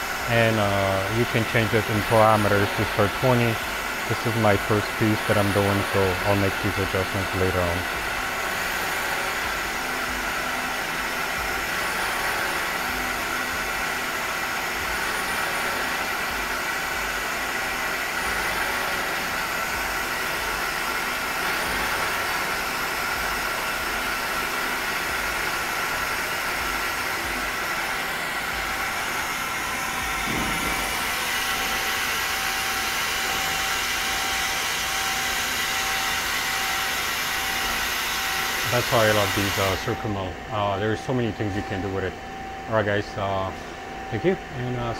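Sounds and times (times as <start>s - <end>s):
coolant hiss: 0.0s - 42.1s
lathe machine whir: 0.0s - 44.9s.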